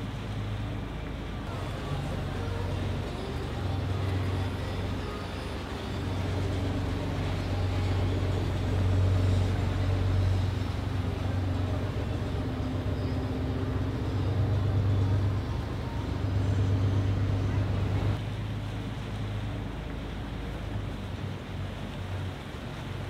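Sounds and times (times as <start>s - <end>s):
motorboat engine humming: 0.0s - 23.0s.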